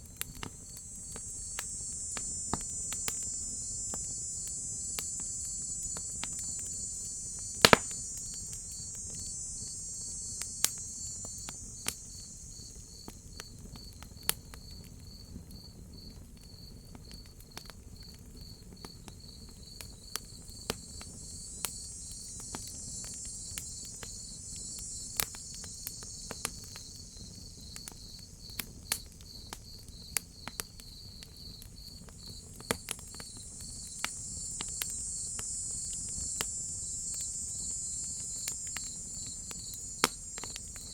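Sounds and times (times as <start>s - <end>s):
high insect buzz: 0.0s - 14.2s, 19.1s - 29.4s, 31.8s - 40.9s
crickets chirping: 0.0s - 40.9s
wood fire crackling and popping: 0.0s - 40.9s.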